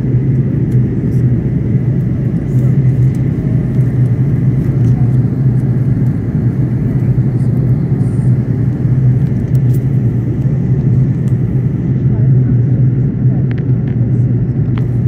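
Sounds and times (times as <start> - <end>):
airplane cabin drone: 0.0 - 15.0.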